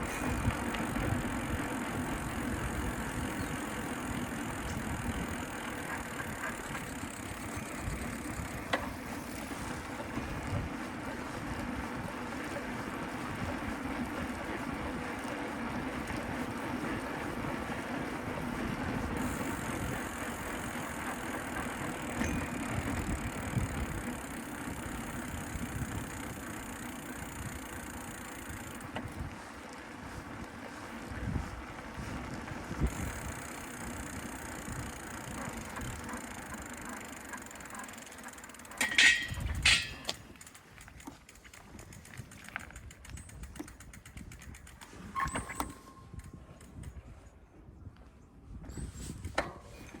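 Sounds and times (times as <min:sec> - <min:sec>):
bicycle road noise: 0:00.0 - 0:50.0.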